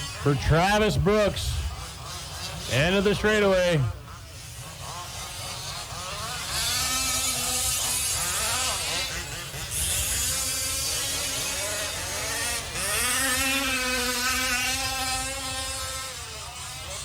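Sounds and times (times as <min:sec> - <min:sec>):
small two-stroke engines buzzing: 0:00.0 - 0:17.0.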